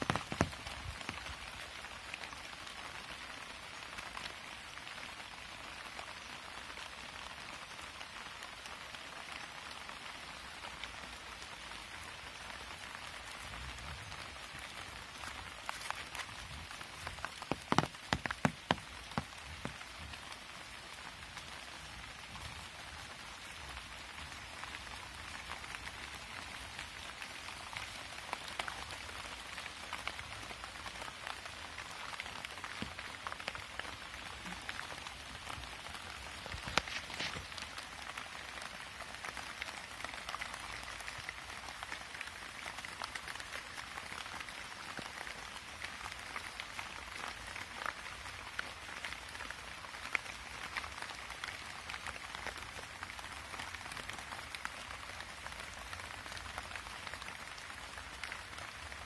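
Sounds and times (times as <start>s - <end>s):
rain falling on leaves: 0.0s - 59.0s.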